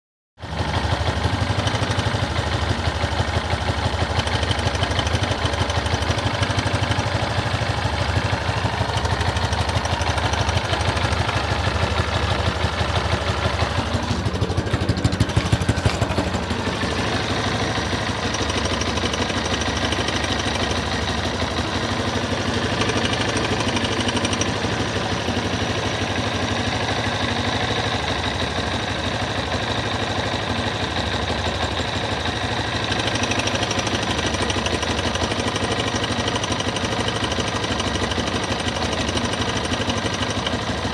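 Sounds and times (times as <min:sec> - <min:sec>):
motorcycle engine idling: 0:00.4 - 0:40.9
strange engine noise: 0:00.4 - 0:40.9.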